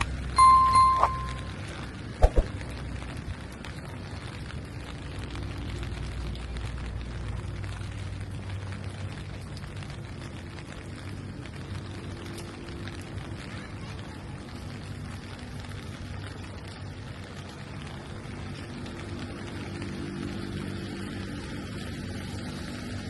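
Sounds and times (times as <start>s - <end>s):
rain falling on street: 0.0s - 23.0s
vehicle engine hum: 0.0s - 23.0s.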